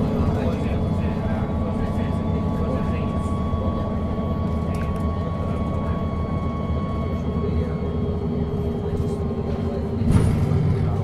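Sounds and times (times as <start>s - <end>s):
bus diesel engine idling: 0.0s - 11.0s.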